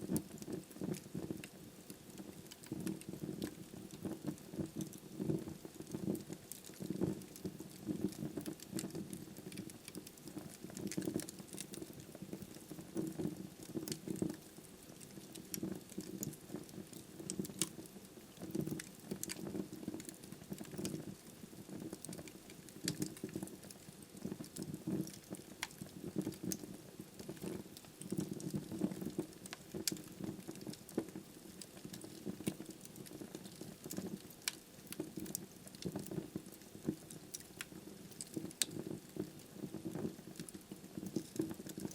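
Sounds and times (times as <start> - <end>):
fire rumbling in fireplace: 0.1 - 41.9
burning wood crackling: 0.2 - 41.9.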